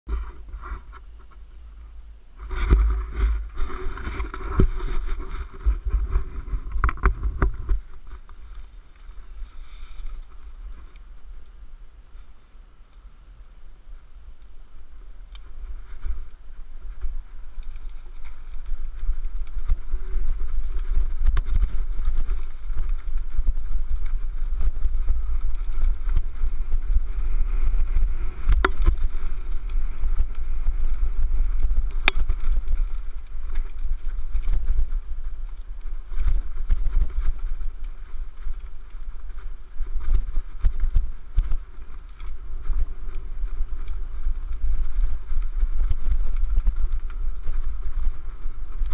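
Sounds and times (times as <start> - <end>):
wind rumble on microphone: 0.1 - 48.9.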